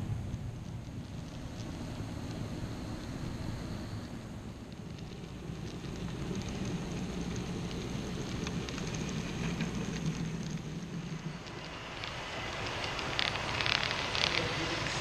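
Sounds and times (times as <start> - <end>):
wheels clicking on rails: 0.0 - 15.0
model train motor hum: 1.2 - 15.0.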